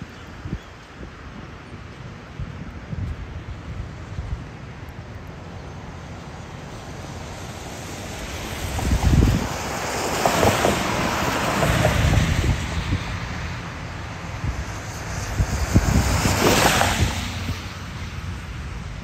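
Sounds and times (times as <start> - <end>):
tyres hissing on wet road: 0.0 - 19.0
wind buffeting microphone: 0.0 - 19.0.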